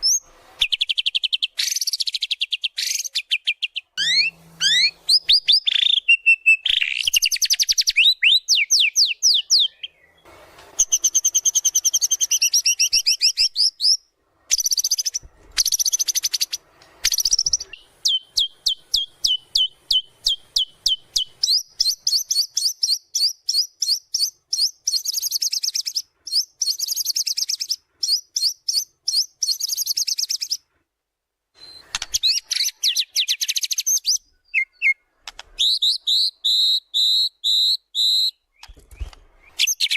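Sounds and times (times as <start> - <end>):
songbird singing high trills: 0.0 - 30.6, 31.6 - 39.9.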